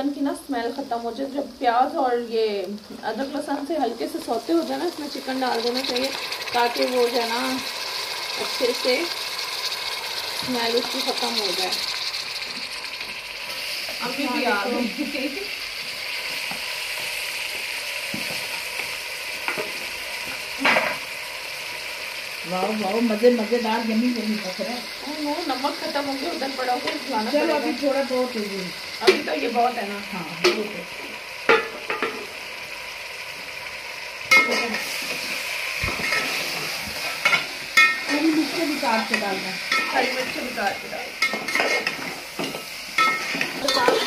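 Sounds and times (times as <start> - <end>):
chicken sizzling in hot oil: 0.0 - 44.0.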